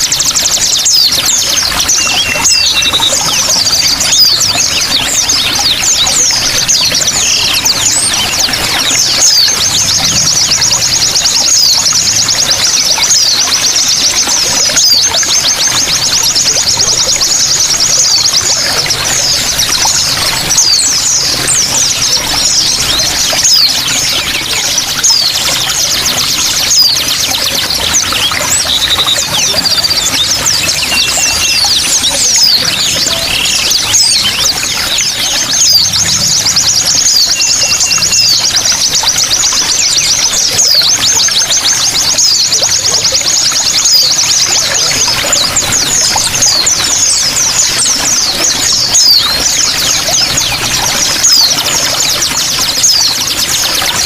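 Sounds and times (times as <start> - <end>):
running water: 0.0 - 54.0
small songbirds chirping and twittering: 0.0 - 54.0.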